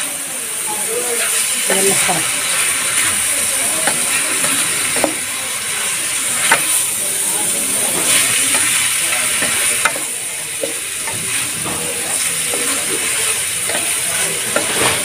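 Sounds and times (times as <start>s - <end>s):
livers sizzling in a pot: 0.0s - 15.0s.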